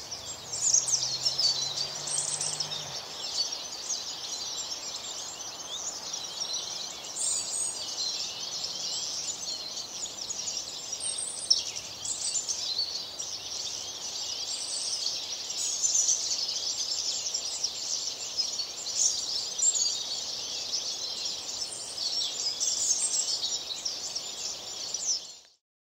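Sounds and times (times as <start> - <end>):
small birds chirping: 0.0 - 25.6.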